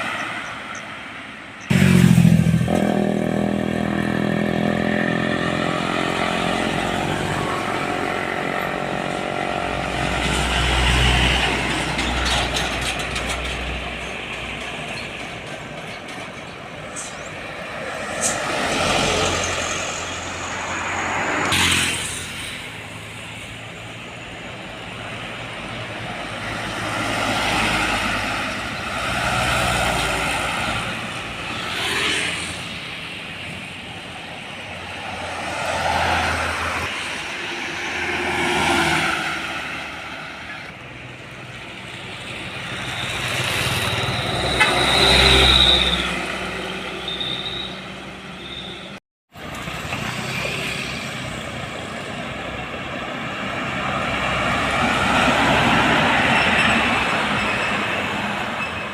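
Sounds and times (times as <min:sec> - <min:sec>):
trucks and cars passing: 0:00.0 - 0:58.9.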